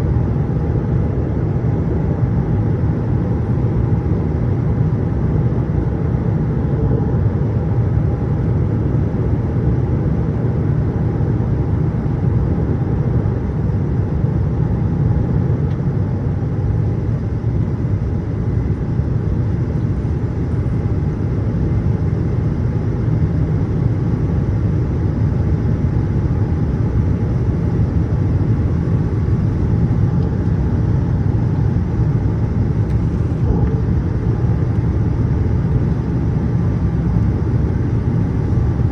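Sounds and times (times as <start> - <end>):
airliner cabin rumble: 0.0 - 38.9
faint steady hum: 0.0 - 38.9.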